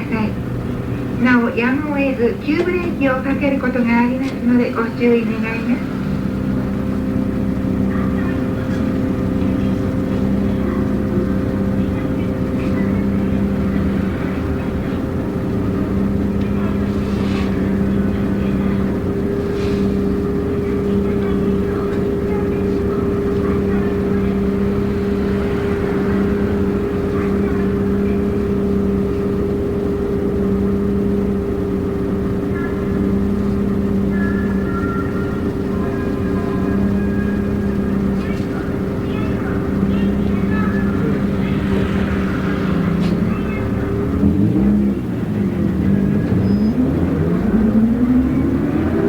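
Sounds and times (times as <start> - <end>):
bus engine humming: 0.0 - 49.0.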